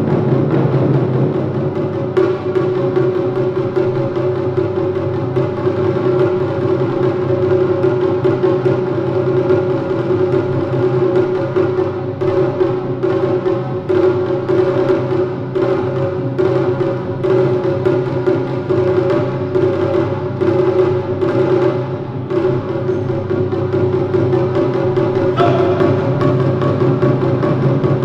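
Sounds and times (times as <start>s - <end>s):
taiko drumming: 0.0s - 28.0s.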